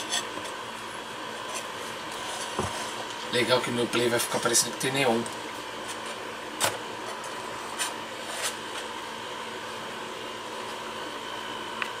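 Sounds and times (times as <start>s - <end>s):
fans whirring: 0.0s - 12.0s.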